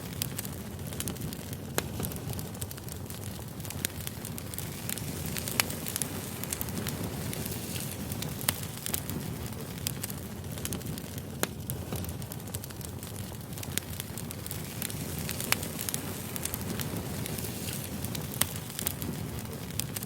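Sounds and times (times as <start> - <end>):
campfire pops and crackles: 0.0 - 20.0
low rush of flame: 0.0 - 20.0.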